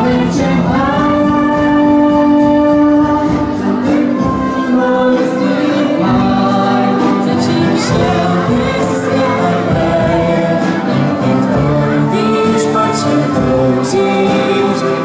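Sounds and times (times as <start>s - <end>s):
girl and boy singing: 0.0s - 15.0s
live band playing: 0.0s - 15.0s.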